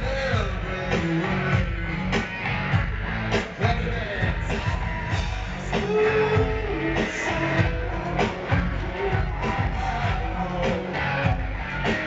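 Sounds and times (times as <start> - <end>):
singing voice: 0.0 - 2.4, 3.3 - 12.0
live rock band playing: 0.0 - 12.0.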